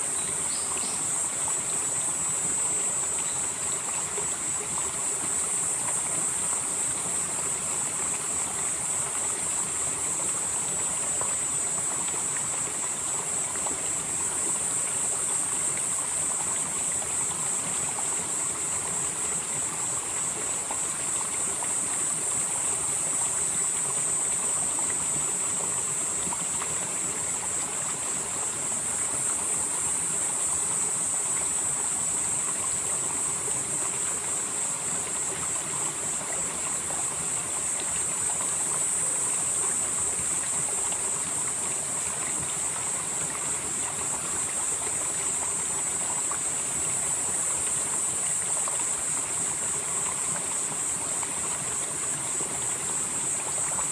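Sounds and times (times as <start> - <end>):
mountain stream flowing: 0.0 - 53.9.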